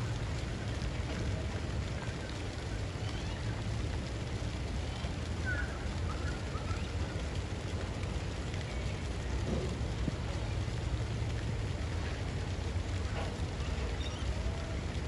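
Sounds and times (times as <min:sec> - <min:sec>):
fountain water spraying: 0:00.0 - 0:15.0.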